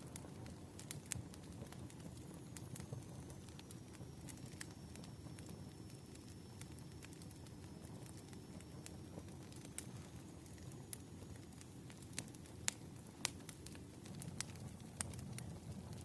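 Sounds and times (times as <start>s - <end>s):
fire crackling and popping: 0.0s - 16.0s
low rumble of burning logs: 0.0s - 16.0s.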